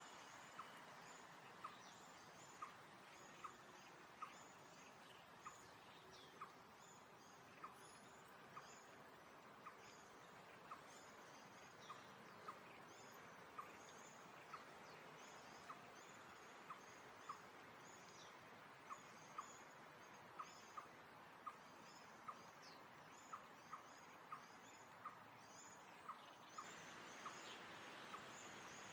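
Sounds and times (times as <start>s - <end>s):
background hiss: 0.0s - 28.9s
bird chirping: 0.0s - 28.9s.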